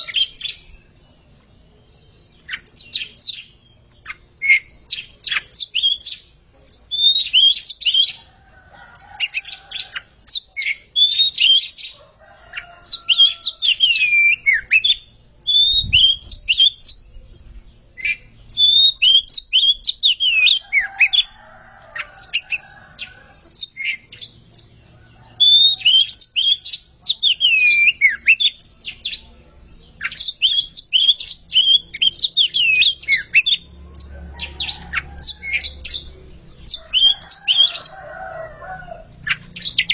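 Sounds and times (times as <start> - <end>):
birds singing whistles: 0.0 - 8.3, 9.0 - 39.9.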